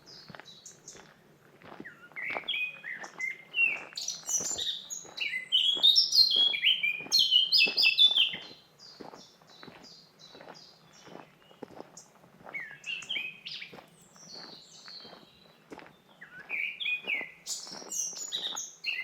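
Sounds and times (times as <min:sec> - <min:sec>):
footsteps on forest path: 0:00.0 - 0:19.0
songbird singing: 0:00.0 - 0:19.0.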